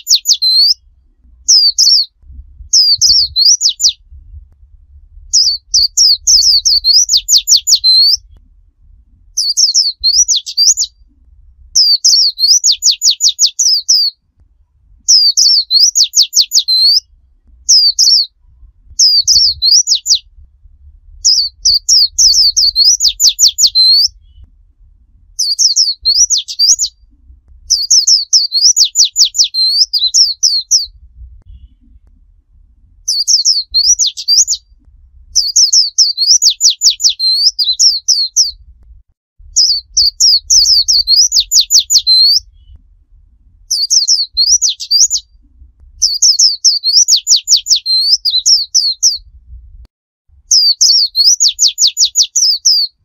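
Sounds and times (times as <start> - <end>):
bird singing rapid falling notes: 0.0 - 4.1, 5.3 - 8.4, 9.3 - 14.3, 15.0 - 20.4, 21.2 - 24.5, 25.4 - 32.0, 33.0 - 38.7, 39.6 - 42.8, 43.7 - 49.3, 50.5 - 53.0.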